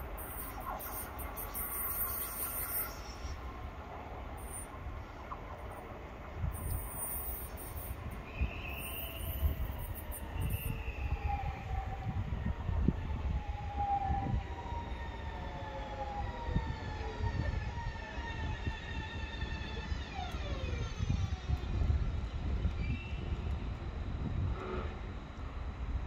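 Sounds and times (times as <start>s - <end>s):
train traction motors whining: 0.0s - 26.0s.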